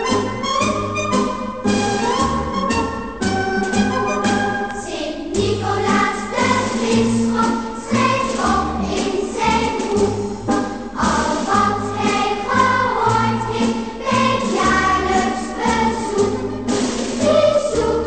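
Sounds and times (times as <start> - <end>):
festive choir song with bass: 0.0 - 18.0.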